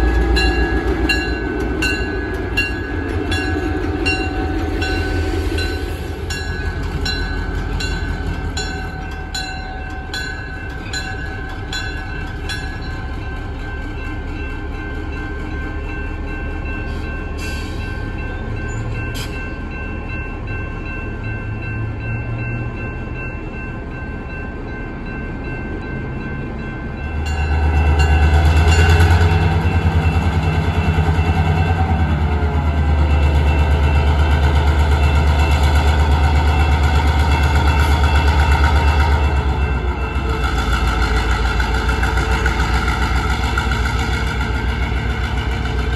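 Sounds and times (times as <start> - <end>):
diesel locomotive engine: 0.0 - 45.9.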